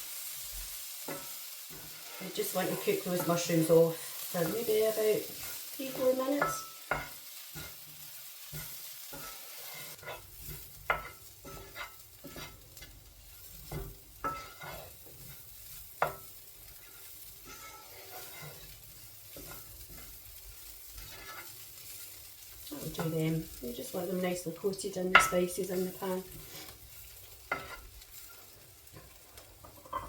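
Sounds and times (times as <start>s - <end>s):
mushrooms sizzling in a pan: 0.0s - 30.0s
utensil scraping a pan: 1.1s - 24.2s, 24.9s - 30.0s.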